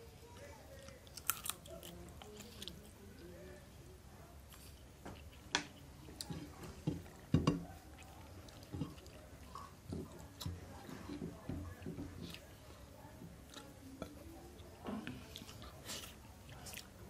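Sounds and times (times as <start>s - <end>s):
man chewing food: 0.4s - 3.3s, 4.3s - 17.0s.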